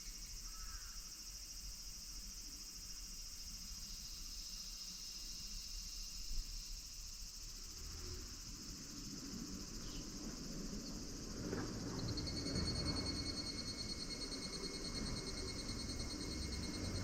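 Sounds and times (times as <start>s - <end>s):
cicadas calling: 0.0s - 17.0s.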